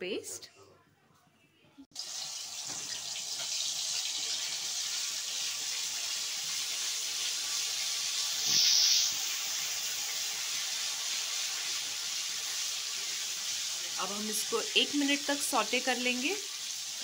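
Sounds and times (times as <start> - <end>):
paste sizzling in hot oil: 2.0 - 17.0.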